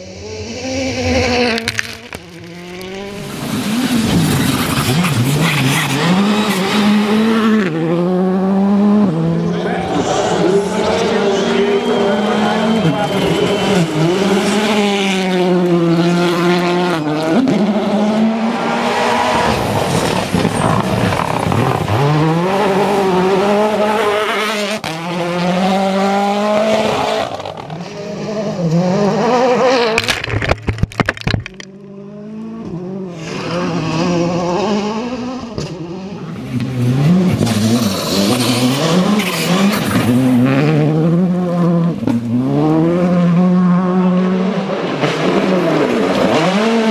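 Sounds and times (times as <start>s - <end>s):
rally car engines at full throttle: 0.0s - 46.9s.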